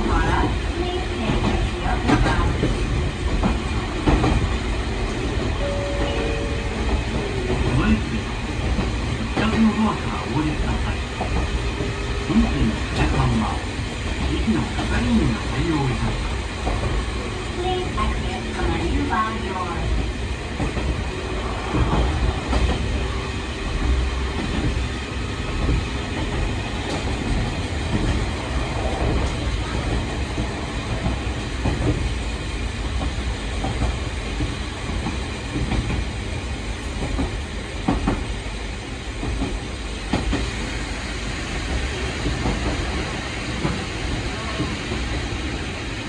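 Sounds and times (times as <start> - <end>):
rail clacks: 0.0 - 46.0
train wheels rumbling on rail: 0.0 - 46.0.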